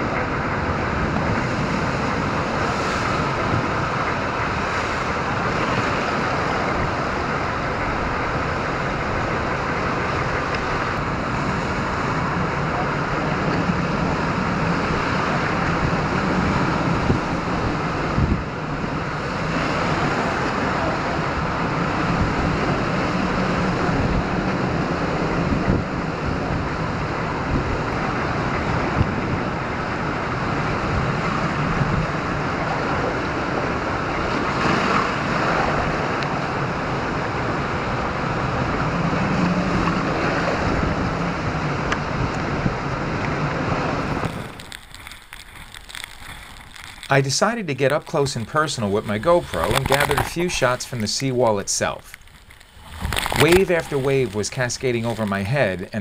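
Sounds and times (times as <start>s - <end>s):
surf and splashing water: 0.0s - 56.0s
wind gusting on microphone: 0.0s - 56.0s.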